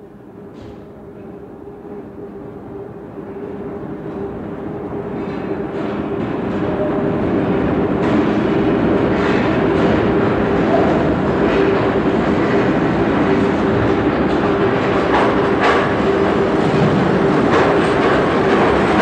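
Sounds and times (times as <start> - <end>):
train approaching with hum: 0.0 - 19.0.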